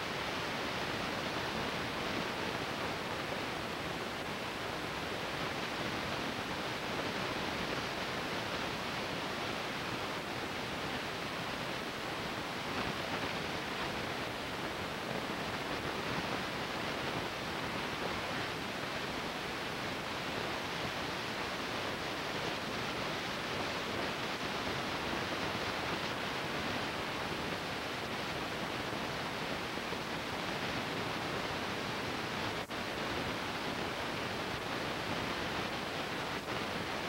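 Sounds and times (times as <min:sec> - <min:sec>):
steady hiss: 0:00.0 - 0:37.0.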